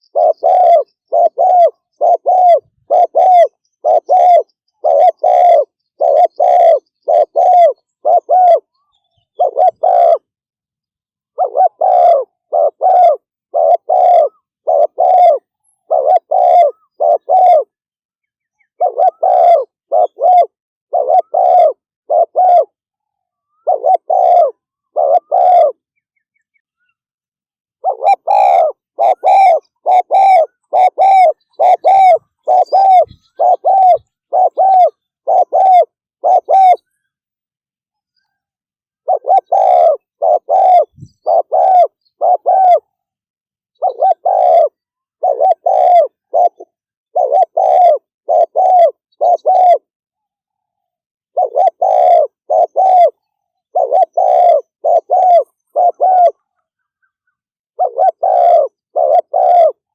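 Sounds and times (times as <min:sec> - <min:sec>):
dove cooing rapidly: 0:00.0 - 0:10.4, 0:11.2 - 0:17.8, 0:18.6 - 0:22.8, 0:23.4 - 0:25.8, 0:27.8 - 0:37.1, 0:39.0 - 0:43.0, 0:43.8 - 0:49.9, 0:51.3 - 0:59.9.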